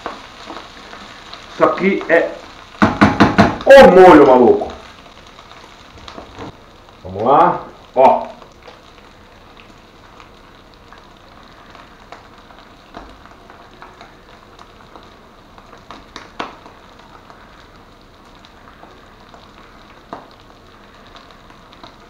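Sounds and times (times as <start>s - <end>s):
meat and sauce sizzling in pan: 0.0s - 22.0s.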